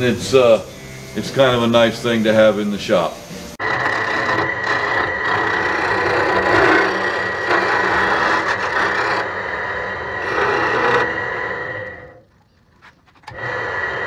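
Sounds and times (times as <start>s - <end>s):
lathe tool cutting wood: 0.0s - 12.2s, 13.2s - 14.0s
lathe motor high whine: 0.0s - 12.3s, 13.2s - 14.0s.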